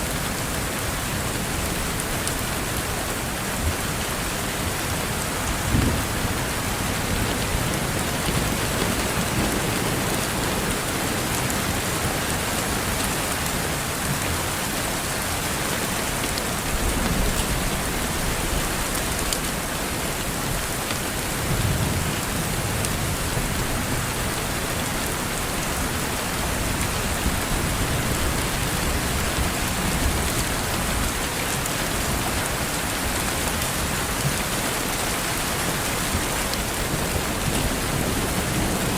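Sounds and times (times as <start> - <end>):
rain hitting window glass: 0.2 - 38.9.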